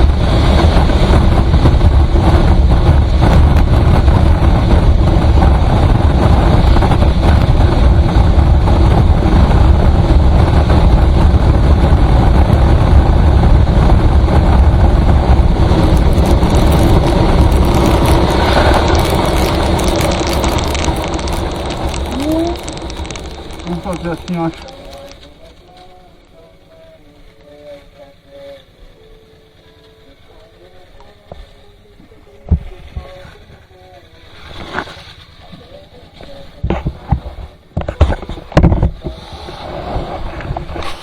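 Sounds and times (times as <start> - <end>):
road and wind noise: 0.0 - 41.0
vehicle low rumble: 0.0 - 41.0.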